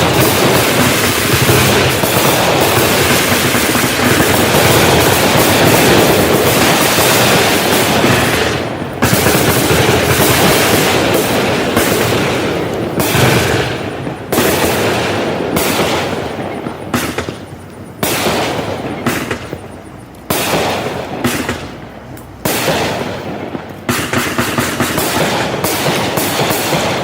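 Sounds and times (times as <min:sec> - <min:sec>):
firework bangs: 0:00.0 - 0:27.0
firework crackling: 0:00.0 - 0:27.0.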